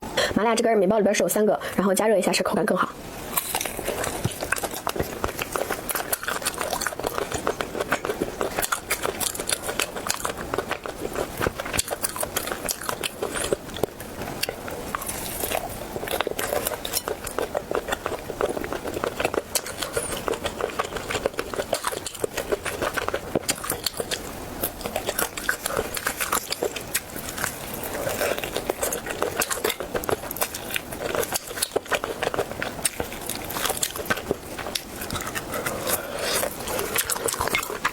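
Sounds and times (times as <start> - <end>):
chewing and biting: 3.3 - 37.9.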